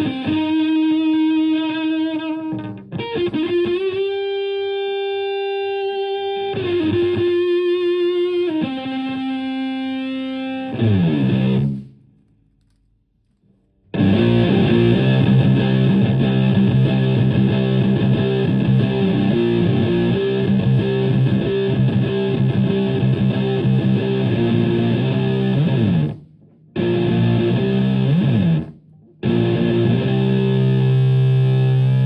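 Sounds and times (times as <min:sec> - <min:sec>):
distorted electric guitar riffing: 0:00.0 - 0:12.2, 0:13.9 - 0:32.0.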